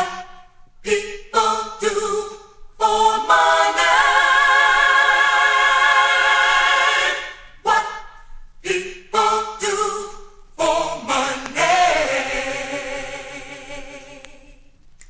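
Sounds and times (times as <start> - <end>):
group singing in close harmony: 0.0 - 14.7.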